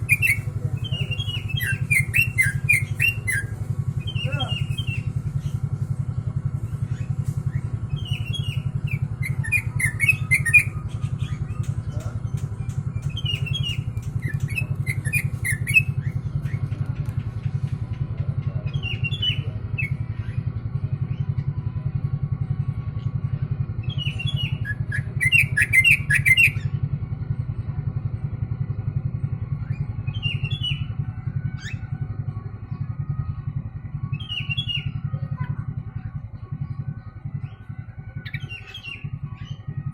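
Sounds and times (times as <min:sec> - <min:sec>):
bulbul singing chattering phrases: 0:00.0 - 0:39.9
steady low hum: 0:00.0 - 0:39.9.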